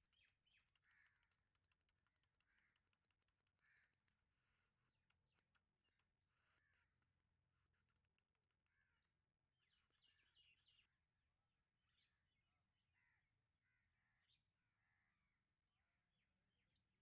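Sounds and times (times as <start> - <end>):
faint bird calls: 0.0 - 4.9, 6.3 - 11.0, 11.9 - 16.2.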